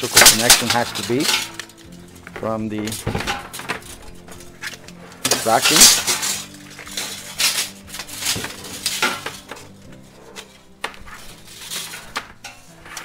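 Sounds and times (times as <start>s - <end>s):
tape measure clinks and rattles: 0.0s - 10.6s, 11.2s - 13.0s
faint background music: 0.0s - 13.0s.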